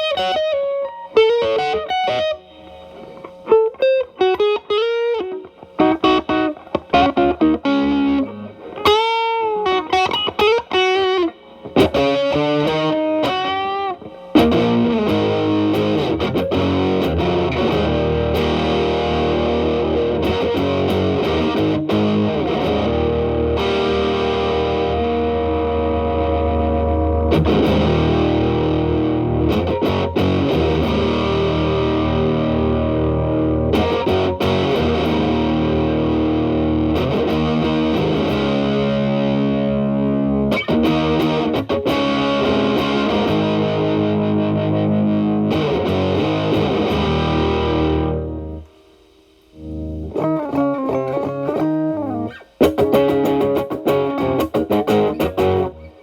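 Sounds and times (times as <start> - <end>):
distorted guitar chords: 0.0 - 56.0
electric guitar lead lines: 0.0 - 56.0.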